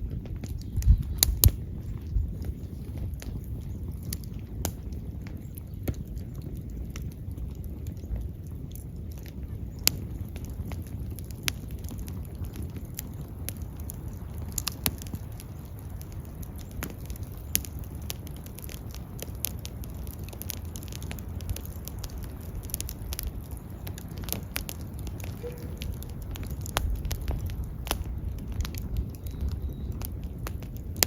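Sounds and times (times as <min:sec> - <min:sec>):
low rumble of burning: 0:00.0 - 0:31.0
sharp pops of fire: 0:00.0 - 0:31.0
wood fire crackling: 0:00.0 - 0:31.0.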